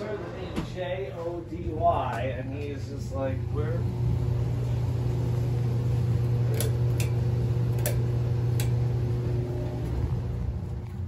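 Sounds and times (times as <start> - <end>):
furnace blower humming: 0.0 - 11.0.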